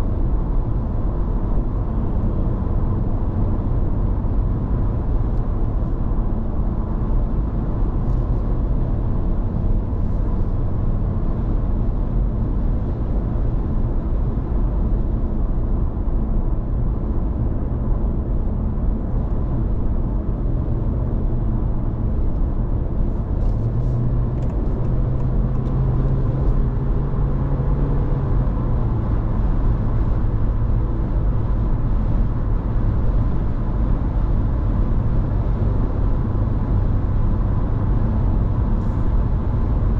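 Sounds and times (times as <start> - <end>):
road and tyre noise in car: 0.0 - 39.9.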